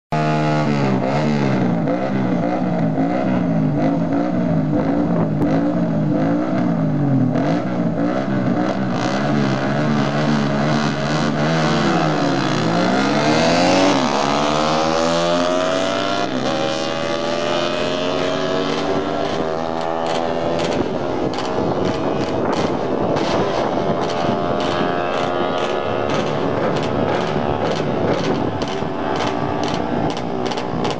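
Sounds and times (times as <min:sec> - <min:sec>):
motorcycle engines revving: 0:00.1 - 0:30.9.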